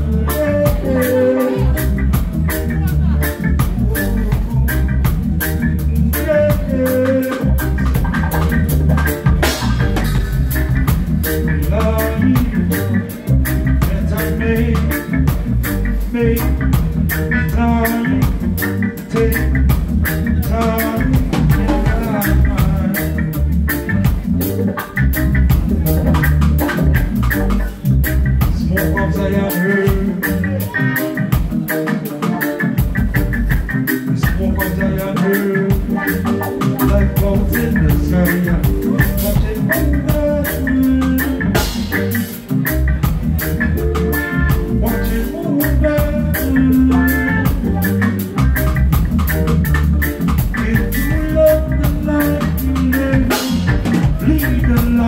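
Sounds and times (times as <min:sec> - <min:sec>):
reggae band playing: 0:00.0 - 0:55.0.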